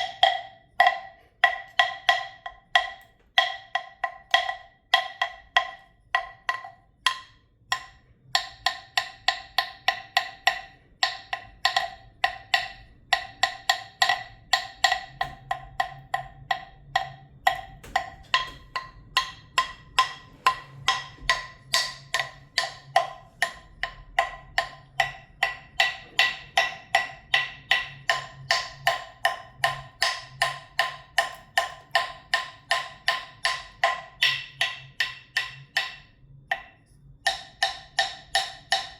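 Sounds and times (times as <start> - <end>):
rapid tapping on hollow percussion: 0.0 - 38.9.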